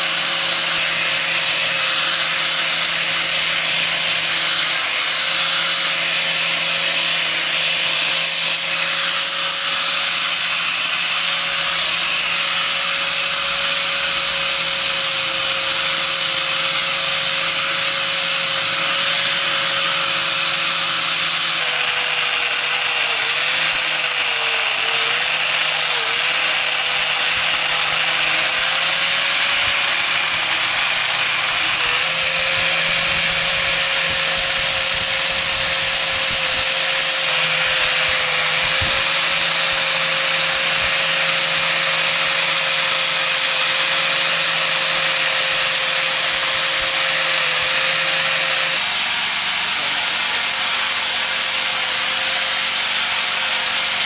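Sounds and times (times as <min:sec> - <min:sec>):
electric power tool running: 0:00.0 - 0:54.0.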